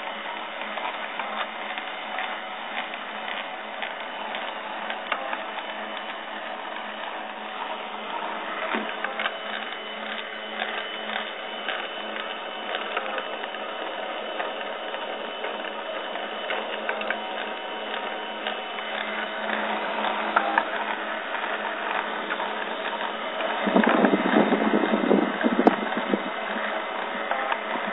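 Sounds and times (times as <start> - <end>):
cnc mill spindle whirring: 0.0 - 27.9.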